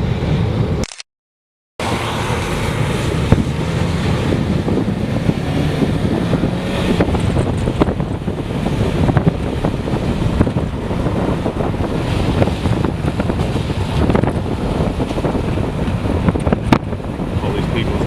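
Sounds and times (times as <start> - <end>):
strong wind buffeting microphone: 1.8 - 18.0.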